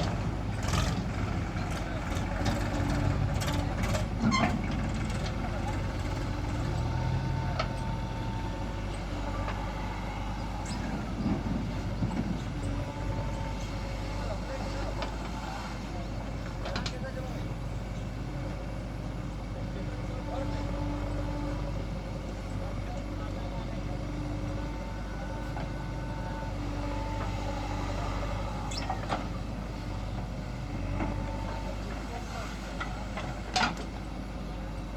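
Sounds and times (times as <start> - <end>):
heavy diesel machinery running: 0.0 - 34.9.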